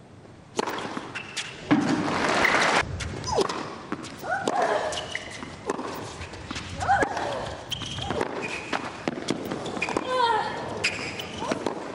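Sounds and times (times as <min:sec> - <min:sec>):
tennis racket hitting ball: 0:00.5 - 0:02.6, 0:03.2 - 0:11.9.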